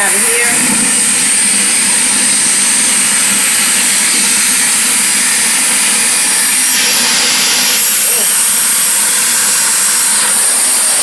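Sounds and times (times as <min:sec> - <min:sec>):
shop vac sucking water: 0:00.0 - 0:11.0.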